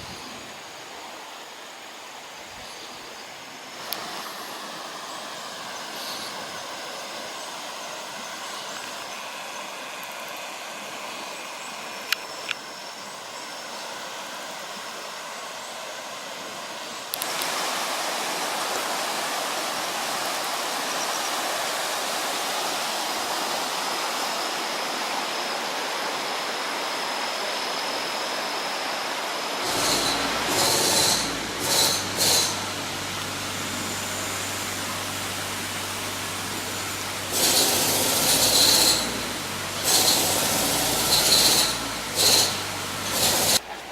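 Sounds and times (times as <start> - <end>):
mountain stream rushing: 0.0 - 43.9.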